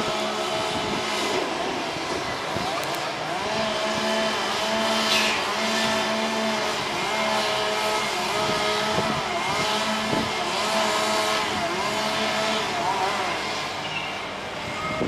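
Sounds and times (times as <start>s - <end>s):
truck engine running: 0.0s - 14.6s.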